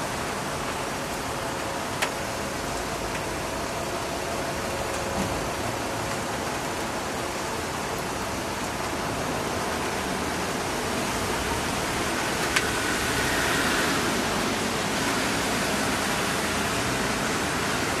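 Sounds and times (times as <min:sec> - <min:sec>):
steady rain: 0:00.0 - 0:18.0
traffic hiss on wet street: 0:00.0 - 0:18.0.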